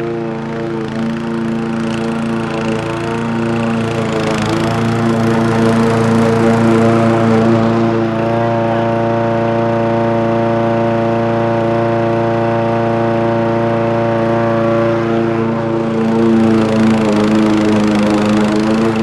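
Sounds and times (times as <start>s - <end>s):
lawnmower engine drone: 0.0s - 19.0s.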